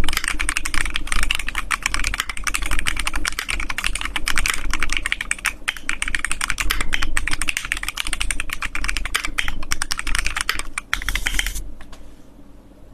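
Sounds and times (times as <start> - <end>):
mechanical keyboard typing: 0.0 - 11.6.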